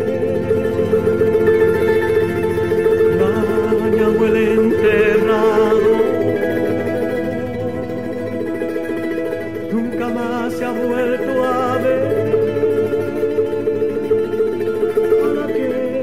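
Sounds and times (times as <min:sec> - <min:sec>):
melody line with vibrato: 0:00.0 - 0:16.0
plucked string instruments: 0:00.0 - 0:16.0.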